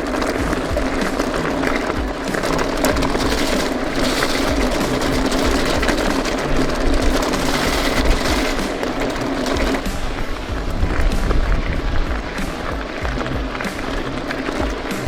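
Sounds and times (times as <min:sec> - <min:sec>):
bike frame rattling: 0:00.0 - 0:15.0
bike tyres on gravel: 0:00.0 - 0:15.0.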